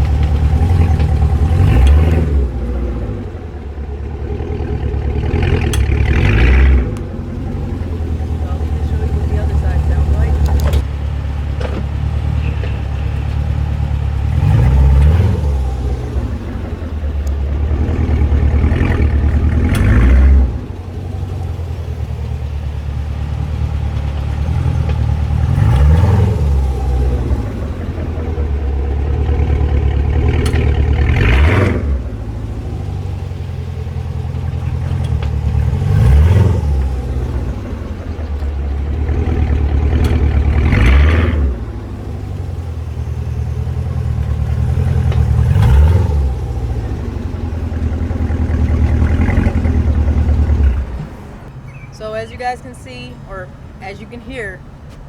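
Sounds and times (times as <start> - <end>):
sharp clicks from rear axle: 0.0 - 32.2, 32.9 - 53.0, 54.8 - 55.0
car engine idling and revving: 0.0 - 55.0.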